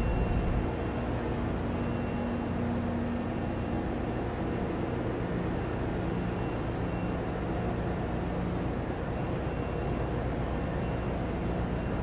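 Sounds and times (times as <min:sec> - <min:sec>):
engine room machinery drone: 0:00.0 - 0:12.0.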